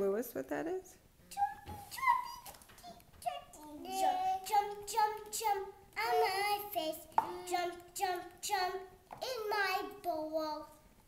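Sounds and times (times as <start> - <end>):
child singing: 1.3 - 10.9.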